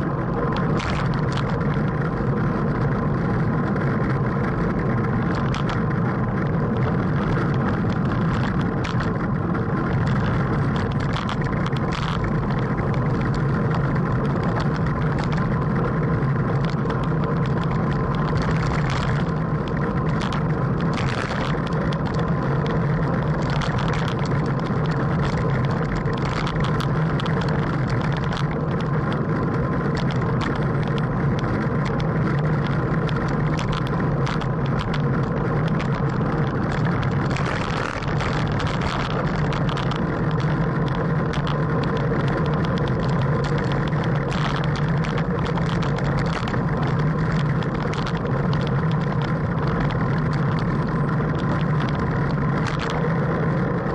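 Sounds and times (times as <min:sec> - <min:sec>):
clicks and rattles from bicycle: 0:00.0 - 0:53.9
low hum: 0:00.0 - 0:53.9
wind rushing over microphone: 0:00.0 - 0:53.9.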